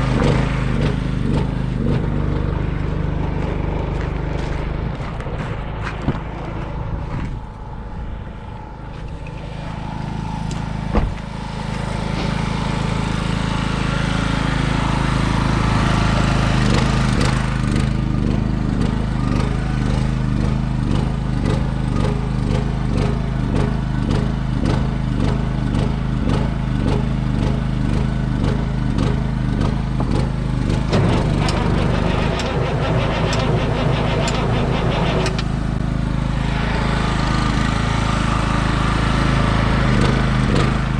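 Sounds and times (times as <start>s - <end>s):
engine running with pulsing beat: 0.0s - 40.9s.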